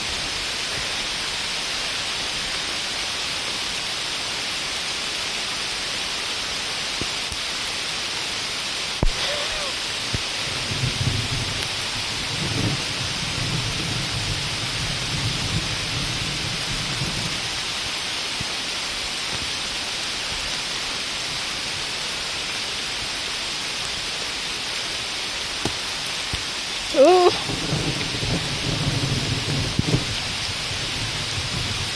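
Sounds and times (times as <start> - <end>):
heavy rain hissing: 0.0 - 31.9.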